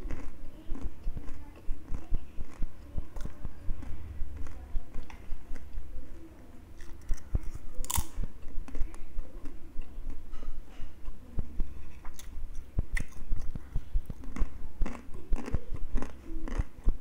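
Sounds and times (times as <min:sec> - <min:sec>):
chewing crunchy snacks: 0:00.0 - 0:05.8, 0:06.8 - 0:10.2, 0:11.8 - 0:17.0.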